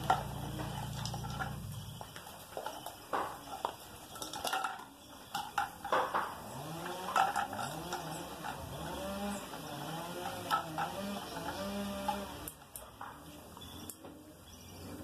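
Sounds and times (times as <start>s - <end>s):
metal birdcages clinking and rattling: 0.0s - 13.2s.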